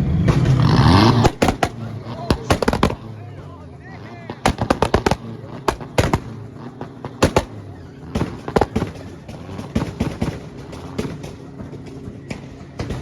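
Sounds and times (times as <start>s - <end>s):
car engine idling: 0.0s - 13.0s
exhaust popping and crackling: 0.0s - 13.0s.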